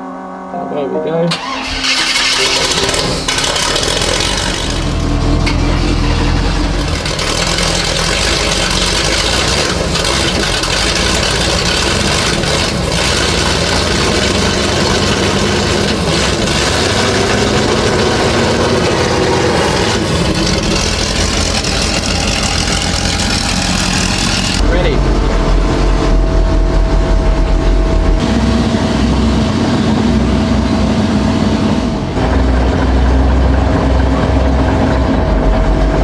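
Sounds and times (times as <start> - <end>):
tank engine idling: 1.4 - 36.0.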